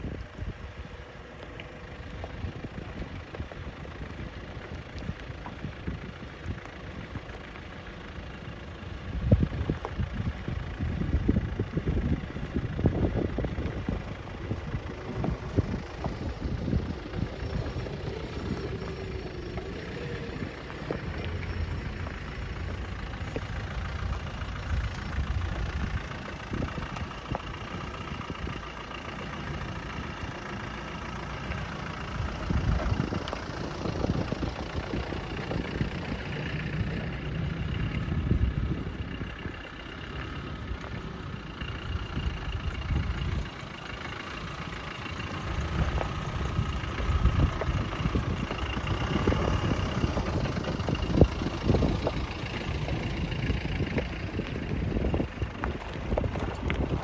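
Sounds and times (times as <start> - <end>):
engine running at low speed: 0.0 - 57.0.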